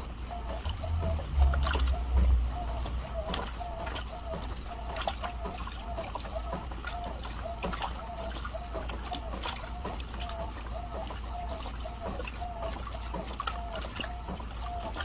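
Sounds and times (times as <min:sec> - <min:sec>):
washing machine drum turning: 0:00.0 - 0:15.0
water sloshing: 0:00.0 - 0:15.0.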